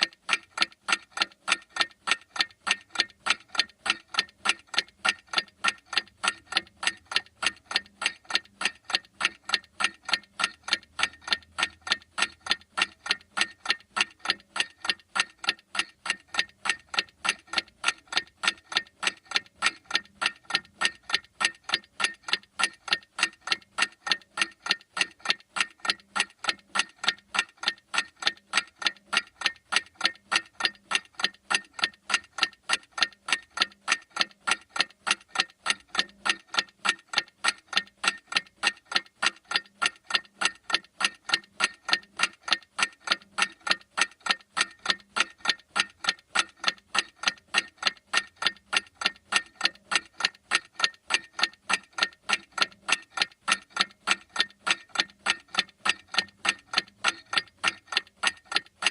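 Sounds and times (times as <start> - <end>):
clock ticking: 0.0 - 58.9.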